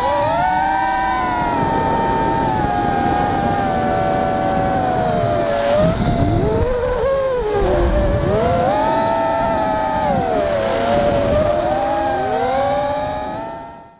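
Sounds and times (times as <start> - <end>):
quadcopter motors whining: 0.0 - 13.9
wind rumble on microphone: 0.0 - 13.9.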